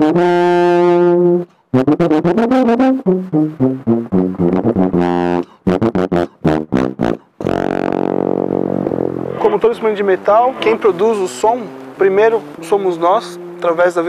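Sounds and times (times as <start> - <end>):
tuba playing: 0.0 - 14.0.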